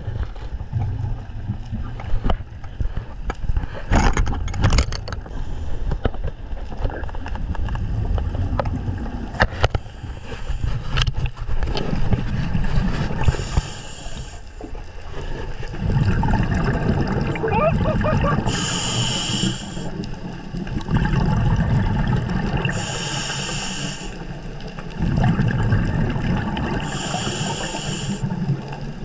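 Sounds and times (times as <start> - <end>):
underwater rumble: 0.0 - 29.0.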